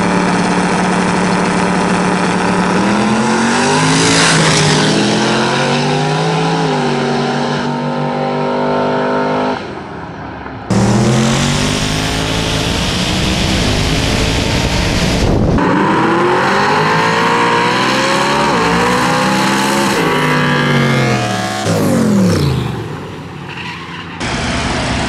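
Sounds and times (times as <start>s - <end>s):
engine revving through gears: 0.0s - 9.6s, 10.7s - 23.4s, 24.2s - 25.0s
drag cars accelerating hard: 0.0s - 25.0s.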